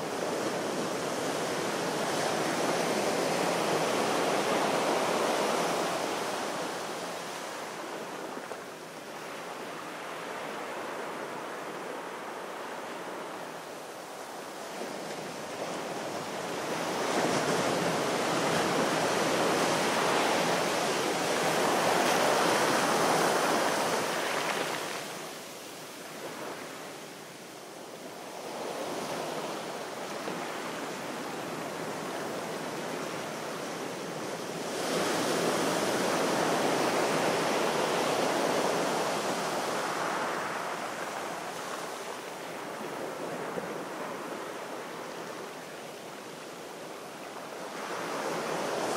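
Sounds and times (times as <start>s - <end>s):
sea waves washing onto shore: 0.0s - 48.9s.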